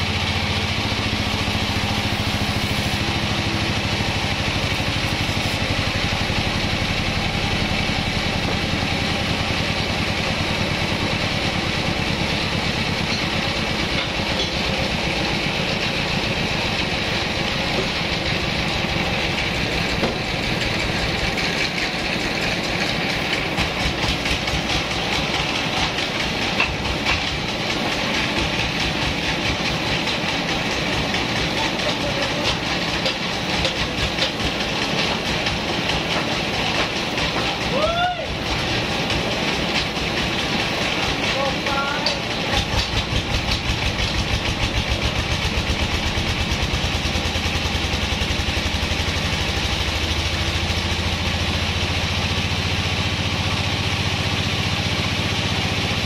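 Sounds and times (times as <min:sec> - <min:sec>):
band sawmill running: 0:00.0 - 0:56.0
log carriage rattling on rails: 0:06.1 - 0:52.7.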